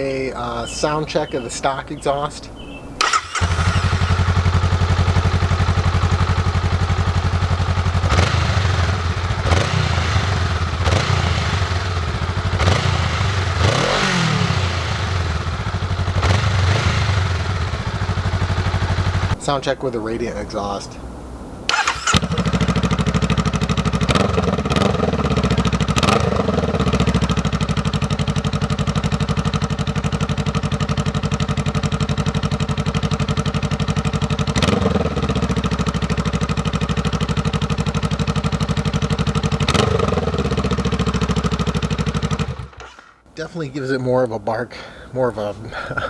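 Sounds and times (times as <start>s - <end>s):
motorcycle engine idling and revving: 2.5s - 19.5s, 21.0s - 43.4s.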